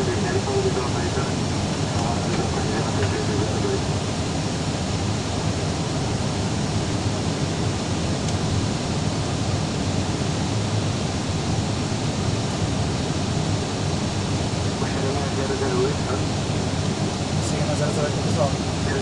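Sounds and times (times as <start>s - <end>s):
airliner cabin noise: 0.0s - 19.0s.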